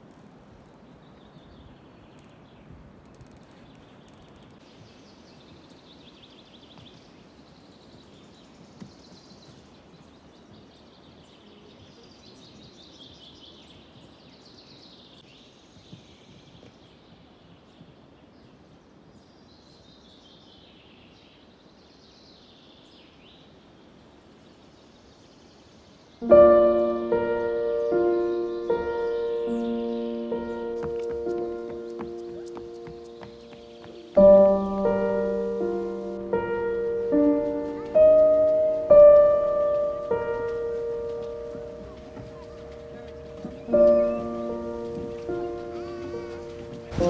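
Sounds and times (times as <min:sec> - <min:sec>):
songbirds singing: 0:00.0 - 0:47.0
steady low background hiss: 0:00.0 - 0:47.0.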